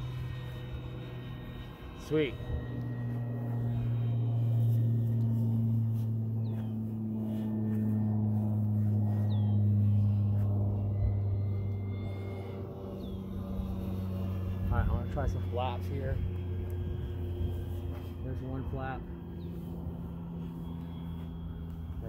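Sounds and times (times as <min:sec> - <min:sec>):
model plane propeller drone: 0:00.0 - 0:22.0.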